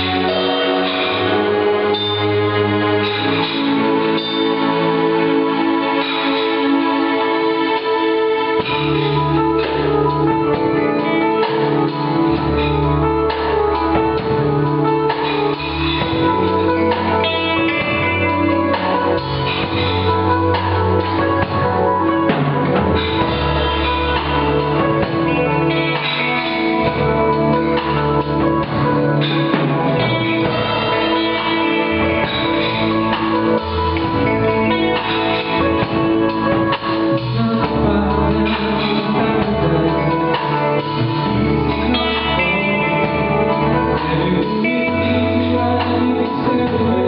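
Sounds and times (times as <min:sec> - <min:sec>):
electric guitar: 0:00.0 - 0:47.0
live rock band playing: 0:00.0 - 0:47.0.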